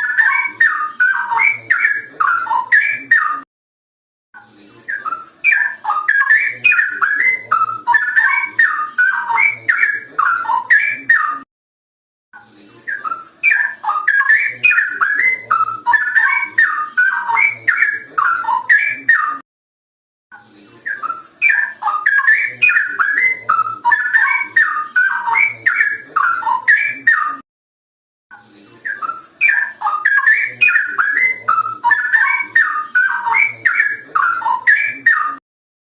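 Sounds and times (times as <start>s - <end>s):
bird singing fluty warbled notes: 0.0s - 3.4s, 4.8s - 11.5s, 12.9s - 19.4s, 20.8s - 27.4s, 28.8s - 35.4s.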